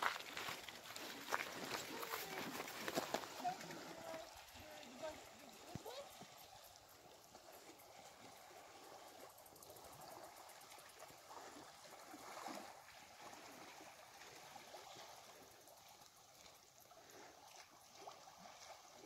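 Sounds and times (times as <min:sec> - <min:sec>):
lake water washing against rocks: 0:00.0 - 0:19.0.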